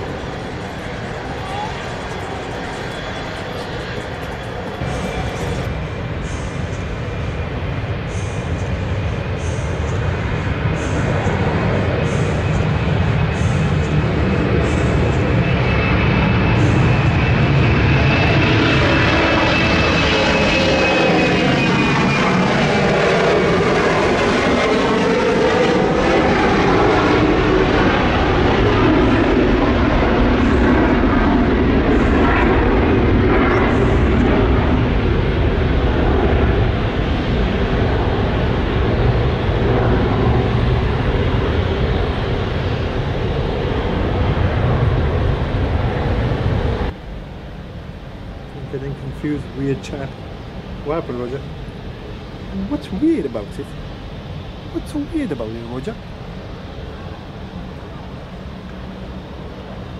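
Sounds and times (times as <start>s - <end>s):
jet engine noise: 0.0s - 59.9s.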